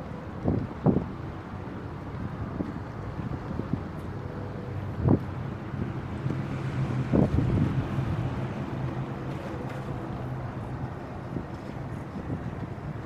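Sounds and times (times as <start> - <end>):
city traffic rumble: 0.0 - 13.0
wind buffeting microphone: 0.0 - 13.0.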